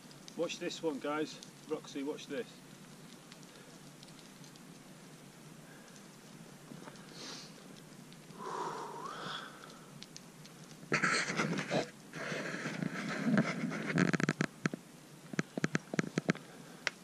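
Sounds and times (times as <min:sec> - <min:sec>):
stones bouncing down a gully: 0:00.0 - 0:17.0.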